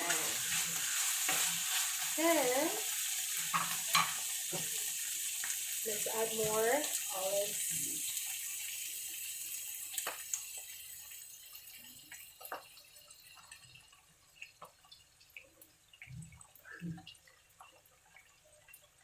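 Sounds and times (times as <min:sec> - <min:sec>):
oil popping and crackling: 0:00.0 - 0:19.0
sauce sizzling in a pan: 0:00.0 - 0:19.0.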